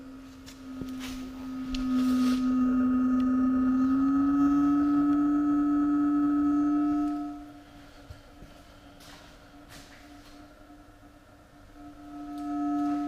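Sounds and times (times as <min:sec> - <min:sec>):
held musical tone: 0:00.0 - 0:13.0.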